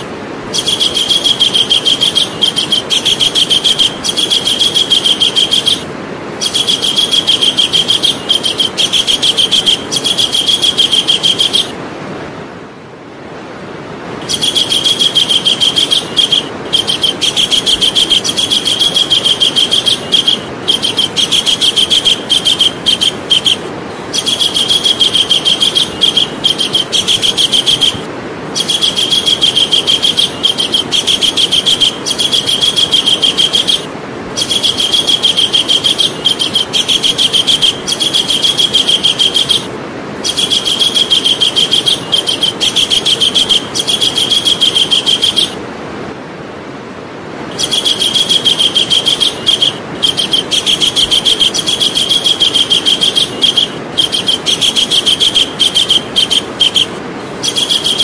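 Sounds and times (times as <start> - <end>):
kingfisher calling: 0.0 - 11.8, 14.2 - 45.6, 47.5 - 58.0.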